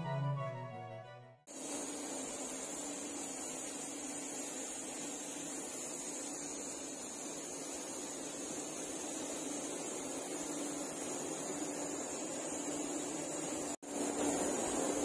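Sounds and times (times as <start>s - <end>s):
spray gun hissing: 1.5s - 15.0s.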